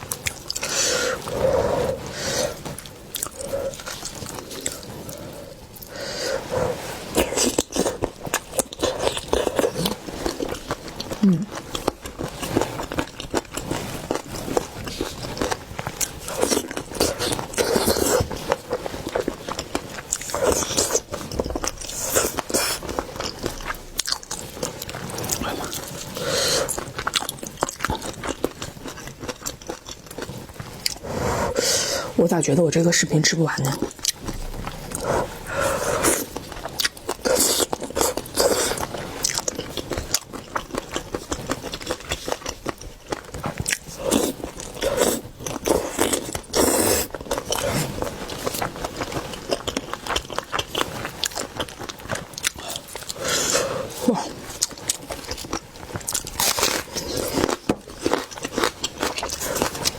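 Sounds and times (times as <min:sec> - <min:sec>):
chewing and crunching seafood: 0:00.0 - 0:59.9.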